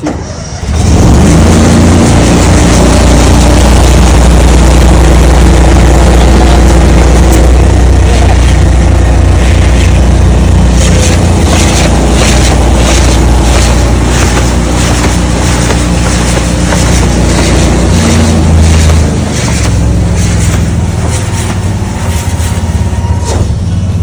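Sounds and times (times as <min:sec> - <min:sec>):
engine and pump hum: 0:00.0 - 0:24.0
hissing pulses: 0:00.0 - 0:24.0
water spray hissing: 0:01.6 - 0:23.0.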